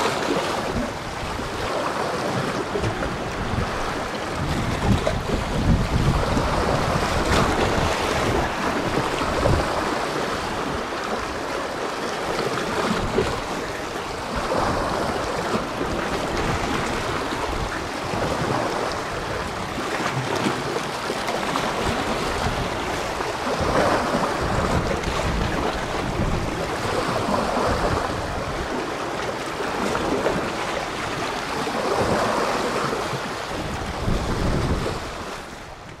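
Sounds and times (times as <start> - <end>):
sea waves washing in: 0.0 - 36.0
wind buffeting microphone: 0.0 - 36.0.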